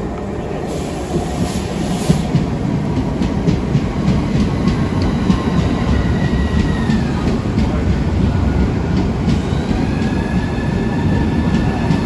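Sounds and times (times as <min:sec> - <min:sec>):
electric train rumbling past: 0:00.0 - 0:12.0.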